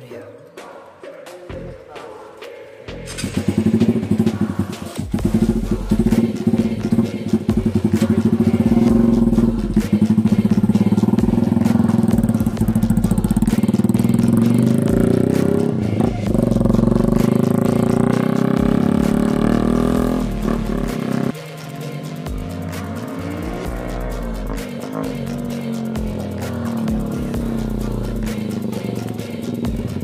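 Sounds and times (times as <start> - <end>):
motorcycle engine pulling away: 3.1 - 30.0.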